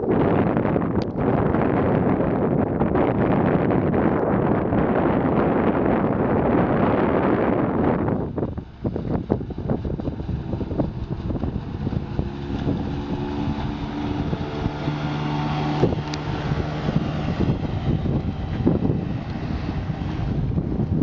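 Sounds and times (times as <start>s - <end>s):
wind buffeting microphone: 0.0s - 21.0s
outboard motor running: 0.1s - 21.0s.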